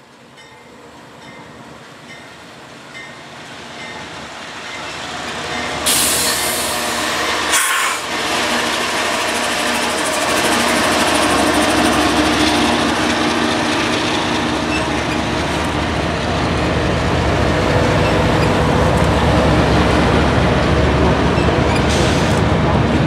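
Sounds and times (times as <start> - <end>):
diesel locomotive engine hum: 0.0 - 23.0
train wheels rumbling on rails: 0.0 - 23.0.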